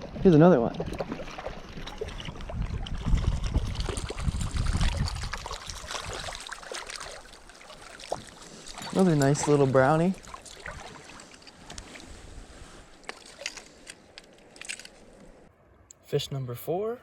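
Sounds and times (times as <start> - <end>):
water splashing and trickling: 0.0 - 15.5.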